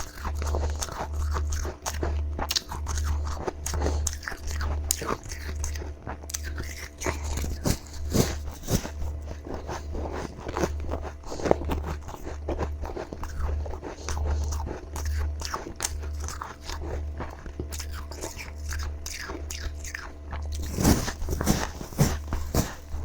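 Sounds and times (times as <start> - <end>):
crunching frost ice: 0.0 - 23.0
low steady hum: 0.0 - 23.0.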